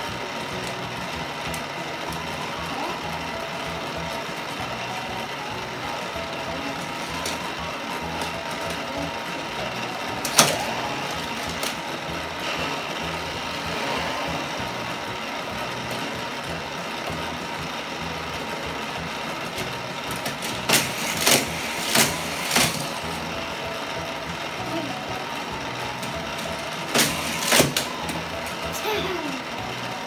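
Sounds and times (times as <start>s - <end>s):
motorized booster whirring: 0.0s - 30.0s.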